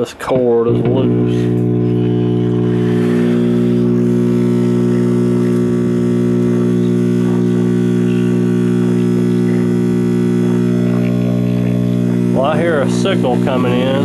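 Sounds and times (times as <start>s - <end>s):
radio speaker hum: 0.4s - 14.0s.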